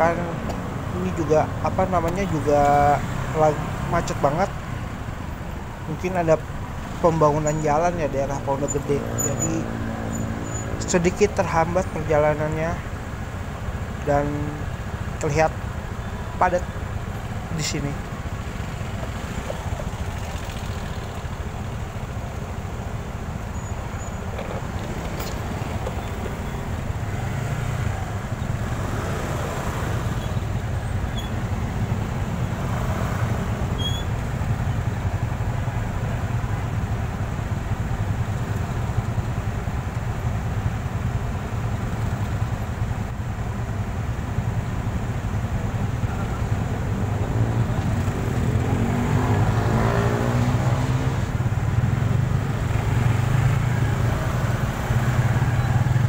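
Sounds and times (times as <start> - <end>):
motorcycle engine humming: 0.0 - 56.0
surrounding traffic noise: 0.0 - 56.0.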